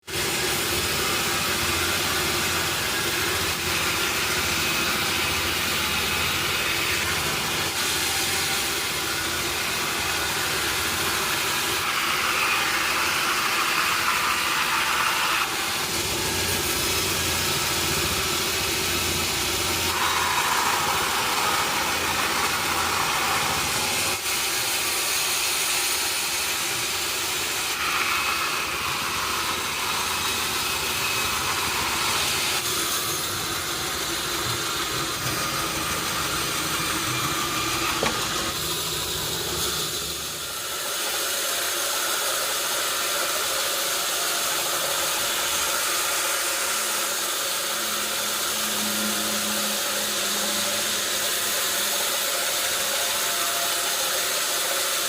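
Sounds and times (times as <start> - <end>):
higher-pitched machine whine: 0.0 - 55.0
sawmill machinery running: 0.0 - 55.0.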